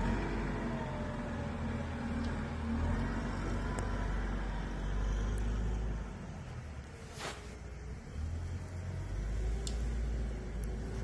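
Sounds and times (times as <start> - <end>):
wheel loader engine rumbling: 0.0 - 11.0.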